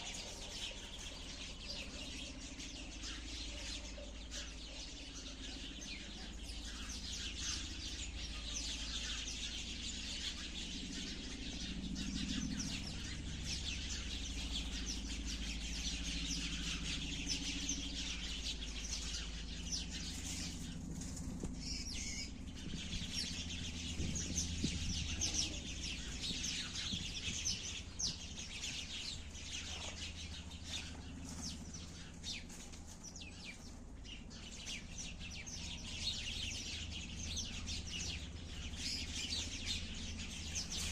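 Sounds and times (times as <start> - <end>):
sparrows chirping: 0.0 - 40.9
steady low hum: 0.0 - 40.9.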